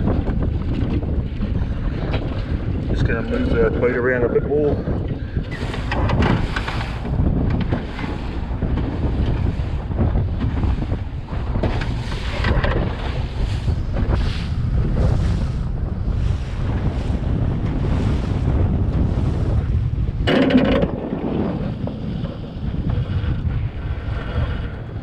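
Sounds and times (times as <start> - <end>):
choppy water around boat: 0.0 - 25.0
wind buffeting microphone: 0.0 - 25.0.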